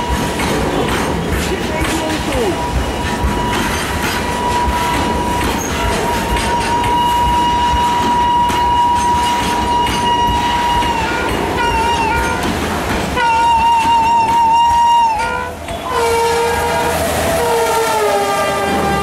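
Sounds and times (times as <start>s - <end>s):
train wheels clattering: 0.0s - 19.0s.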